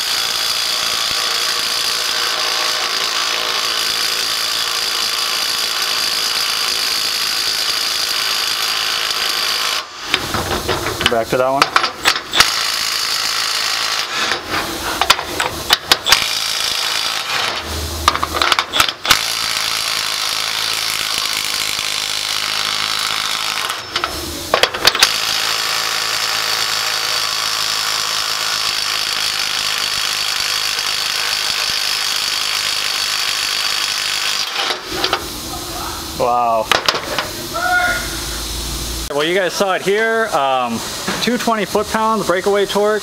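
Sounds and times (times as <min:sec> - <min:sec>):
impact wrench hammering on bolt: 0:00.0 - 0:35.2, 0:36.7 - 0:37.3.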